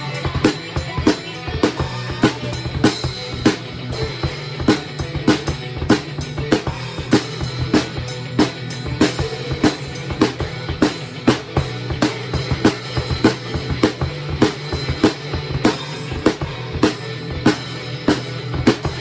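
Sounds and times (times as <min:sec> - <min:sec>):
heavy metal drum kit: 0:00.0 - 0:19.0
recorded metal song: 0:00.0 - 0:19.0.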